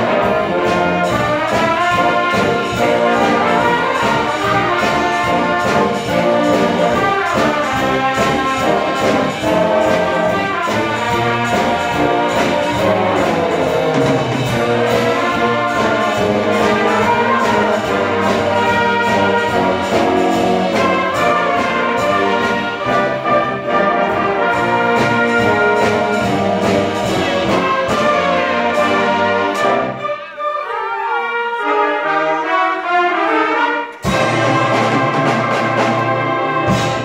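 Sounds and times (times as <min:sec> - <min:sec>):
concert band playing: 0:00.0 - 0:37.0.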